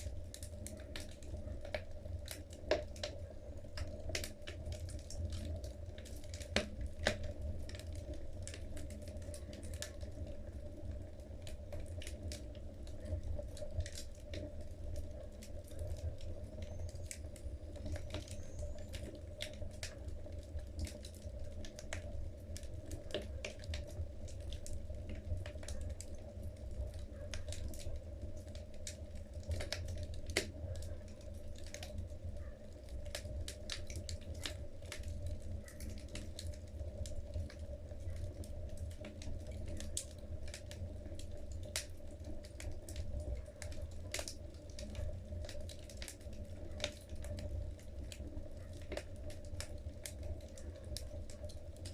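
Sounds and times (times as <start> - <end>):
fire crackling and popping: 0.0 - 51.9.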